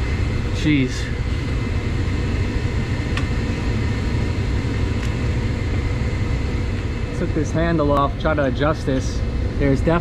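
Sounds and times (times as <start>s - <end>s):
machinery low rumble: 0.0s - 10.0s.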